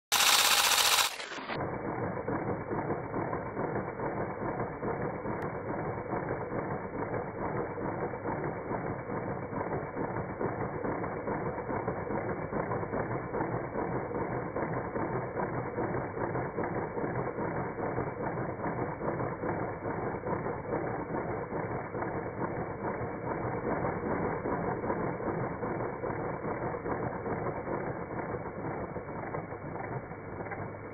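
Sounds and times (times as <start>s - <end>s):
rotary tool whirring: 0.0s - 30.9s.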